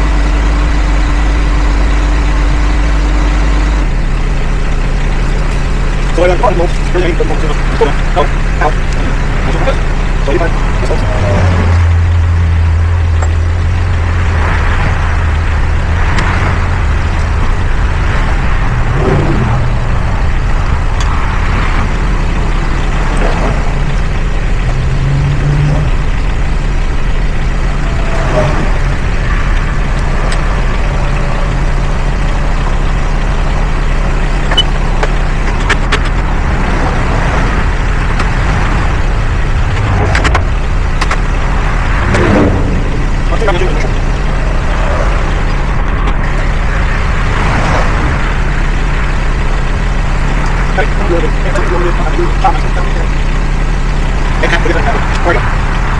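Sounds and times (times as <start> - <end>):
engine humming: 0.0 - 55.9.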